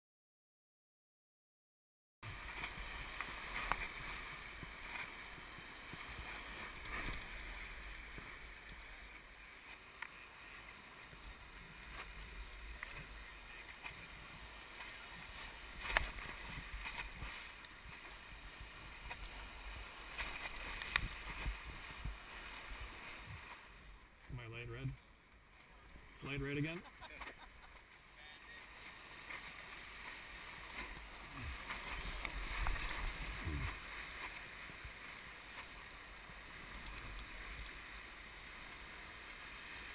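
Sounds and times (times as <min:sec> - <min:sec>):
whitewater rushing and splashing: 0:02.3 - 0:23.9, 0:25.8 - 0:39.9.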